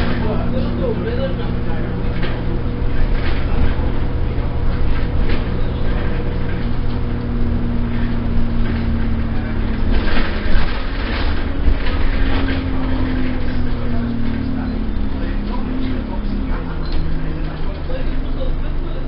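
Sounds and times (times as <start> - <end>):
bus engine and road rumble: 0.0 - 19.0
whine changing pitch: 0.0 - 19.0.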